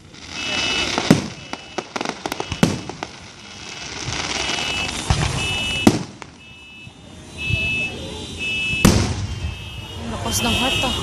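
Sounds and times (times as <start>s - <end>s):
fireworks bangs: 0.0s - 11.0s
fireworks crackling: 0.0s - 11.0s
car alarm tone: 0.3s - 11.0s.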